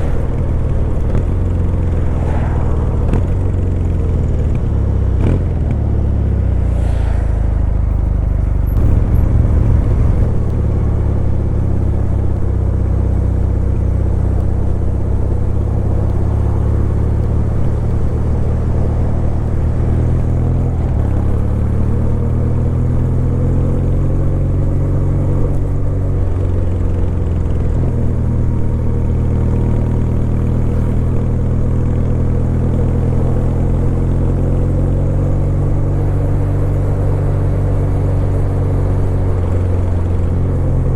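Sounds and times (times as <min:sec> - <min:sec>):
motorcycle engine running: 0:00.0 - 0:06.8, 0:07.4 - 0:40.9.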